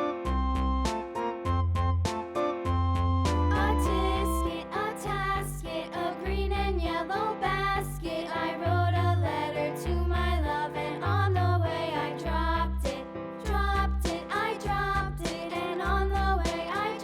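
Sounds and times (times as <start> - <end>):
upbeat children's music: 0.0 - 17.0.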